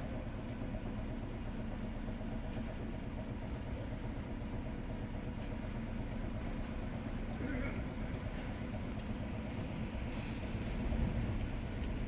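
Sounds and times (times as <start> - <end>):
streetcar hum and rumble: 0.0 - 12.0.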